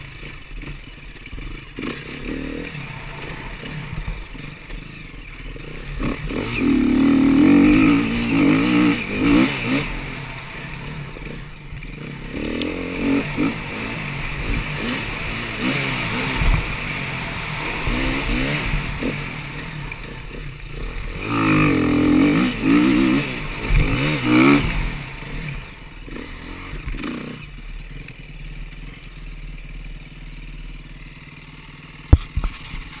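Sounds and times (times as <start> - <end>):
dirt bike engine revving: 0.0 - 29.7.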